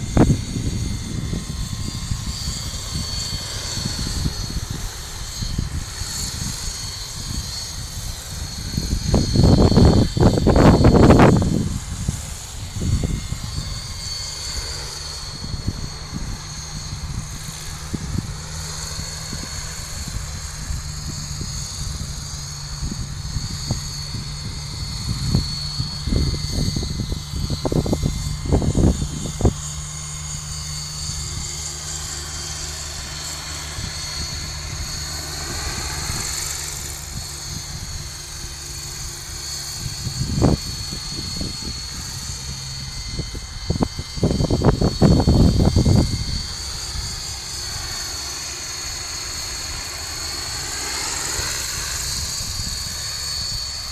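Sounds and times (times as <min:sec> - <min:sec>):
model helicopter motor whine: 0:00.0 - 0:53.9.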